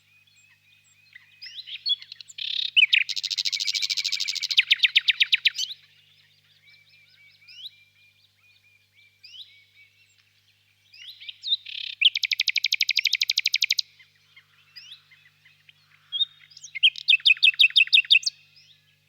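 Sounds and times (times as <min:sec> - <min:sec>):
nightingale singing: 0:00.0 - 0:19.0.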